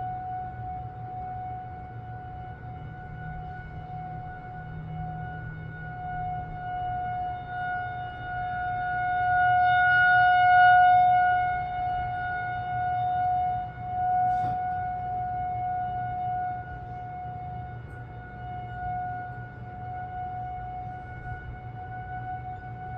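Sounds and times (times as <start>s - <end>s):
warning siren steady tone: 0.0s - 22.9s.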